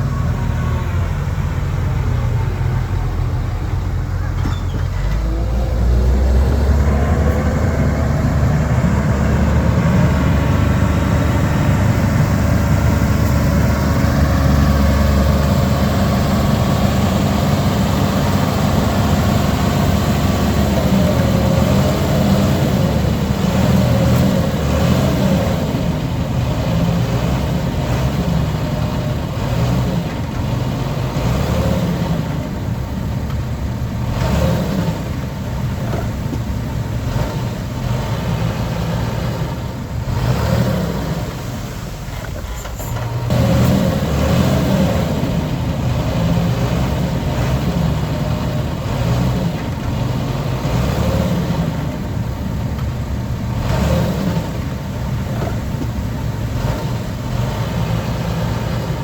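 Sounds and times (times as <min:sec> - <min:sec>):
heavy diesel machinery working: 0:00.0 - 0:59.0.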